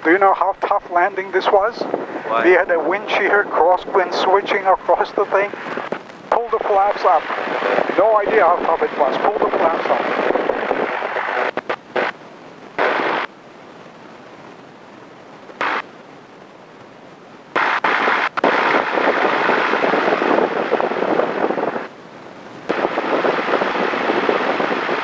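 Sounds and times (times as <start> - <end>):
wind noise: 0.0 - 25.0.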